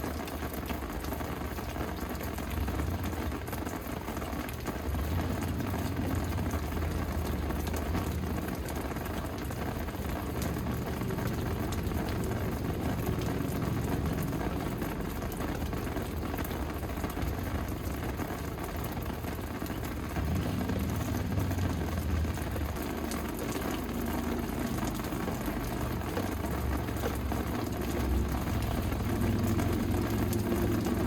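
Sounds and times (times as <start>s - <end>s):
rain falling: 0.0s - 31.0s
raindrops ticking on hard surfaces: 0.0s - 31.0s
low rumble: 4.8s - 31.0s.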